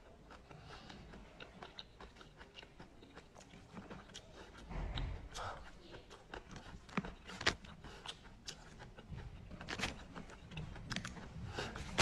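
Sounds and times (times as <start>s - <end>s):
faint eating sounds: 0.0s - 12.0s.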